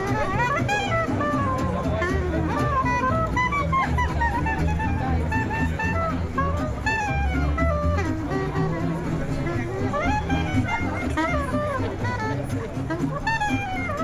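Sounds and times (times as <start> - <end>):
jazz melody with bending notes: 0.0 - 14.0
steady bass: 0.0 - 14.0.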